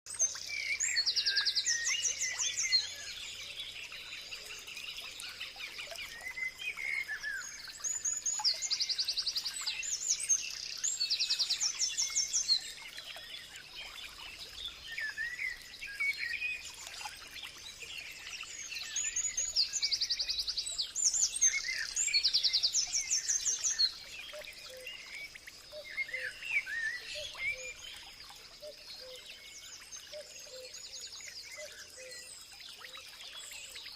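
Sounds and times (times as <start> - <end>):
birds singing and chirping: 0.1 - 33.9.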